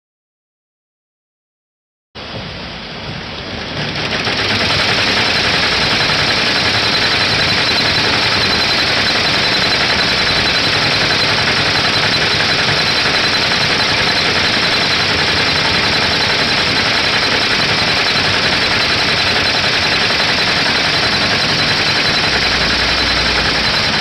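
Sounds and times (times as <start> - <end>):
embroidery machine stitching: 3.5 - 24.0.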